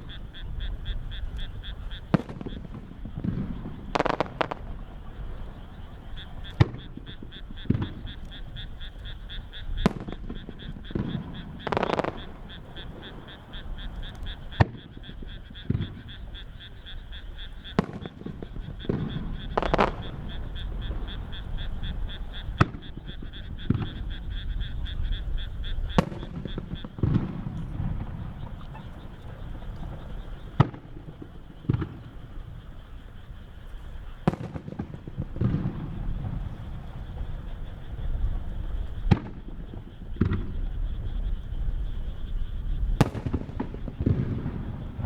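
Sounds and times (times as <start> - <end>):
fireworks booming: 0.0 - 45.0
fireworks cracking: 0.0 - 45.0.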